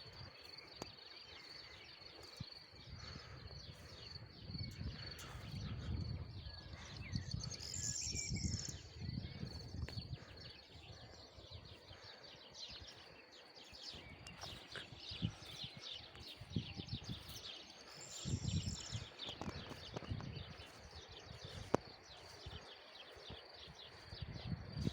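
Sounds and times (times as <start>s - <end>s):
birds chirping: 0.0s - 24.9s
wind rumbling on microphone: 0.0s - 24.9s.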